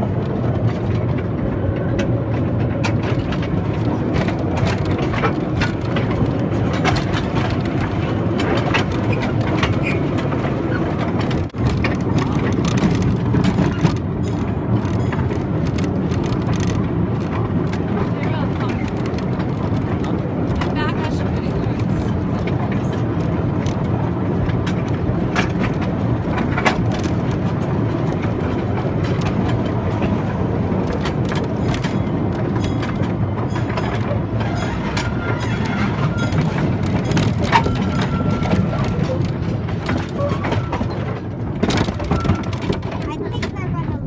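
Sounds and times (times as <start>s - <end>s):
clicks and rattles: 0.0s - 44.0s
vehicle rumble: 0.0s - 44.0s.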